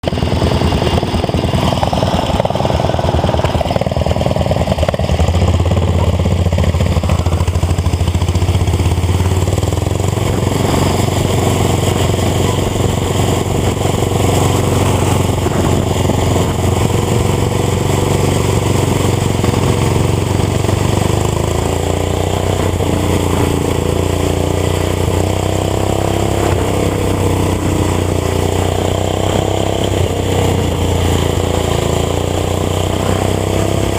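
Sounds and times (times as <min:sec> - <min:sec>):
garden tractor engine running: 0:00.0 - 0:33.9.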